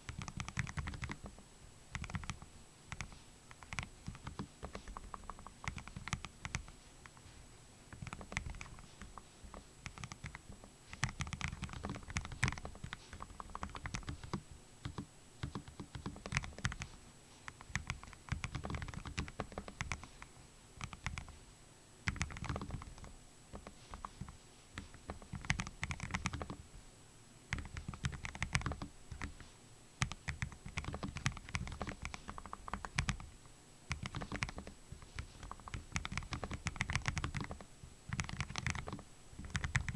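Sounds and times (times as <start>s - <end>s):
mechanical keyboard typing: 0.1s - 7.2s, 7.9s - 16.9s, 17.5s - 20.0s, 20.8s - 21.3s, 22.1s - 26.6s, 27.5s - 29.4s, 30.0s - 39.9s.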